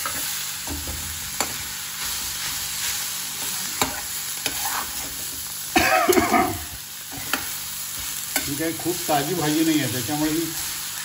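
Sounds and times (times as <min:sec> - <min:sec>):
spatula stirring and scraping: 0:00.0 - 0:05.4, 0:07.1 - 0:11.0
leaves sizzling in a pan: 0:00.0 - 0:11.0.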